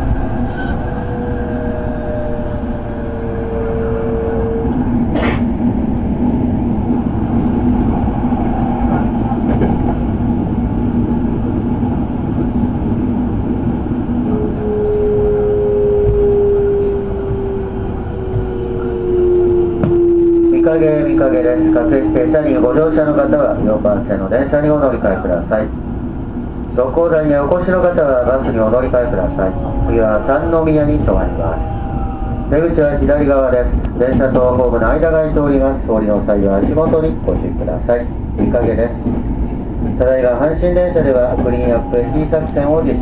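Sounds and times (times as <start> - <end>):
train rumble and motor whine: 0.0 - 43.0.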